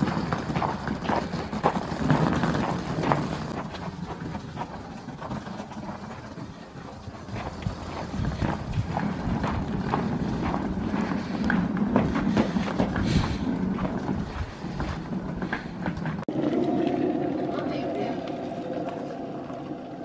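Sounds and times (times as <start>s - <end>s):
footsteps: 0.0s - 16.3s
suitcase wheels rumbling on snow: 0.0s - 20.0s.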